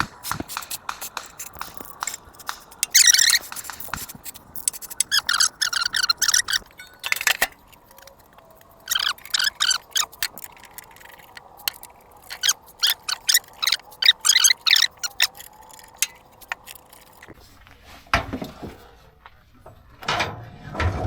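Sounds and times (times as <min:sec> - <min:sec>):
socket ratchet clicking: 0:00.0 - 0:17.4.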